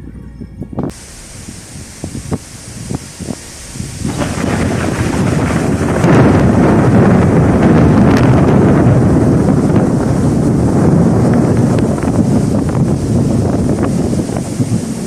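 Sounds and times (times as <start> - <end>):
thunder rumbling: 0.9 - 15.0.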